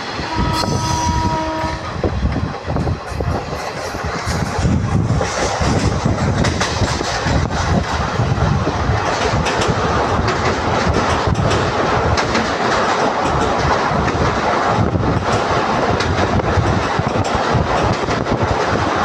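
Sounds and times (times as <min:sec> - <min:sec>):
train rumble: 0:00.0 - 0:19.0
wheels clacking over rail joints: 0:01.1 - 0:19.0.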